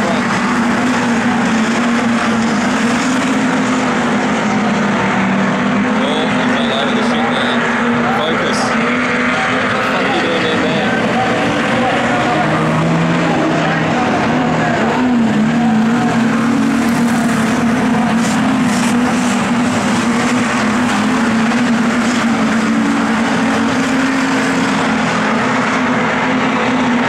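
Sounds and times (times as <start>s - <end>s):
race car engine running hard: 0.0s - 27.0s.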